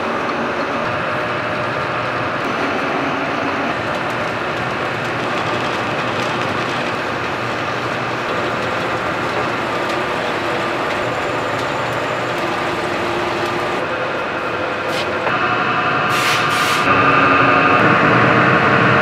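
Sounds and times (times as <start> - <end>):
laminating machine running: 0.0 - 19.0.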